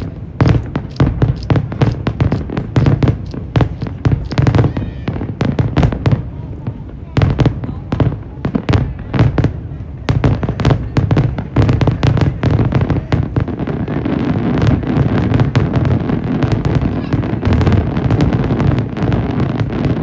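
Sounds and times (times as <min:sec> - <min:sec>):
fireworks banging: 0:00.0 - 0:06.2, 0:07.2 - 0:20.0.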